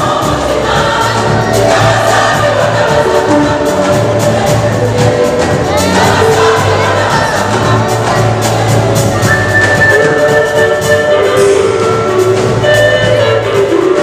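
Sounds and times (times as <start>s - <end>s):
drum kit steady beat: 0.0s - 14.0s
long held instrumental notes: 0.0s - 14.0s.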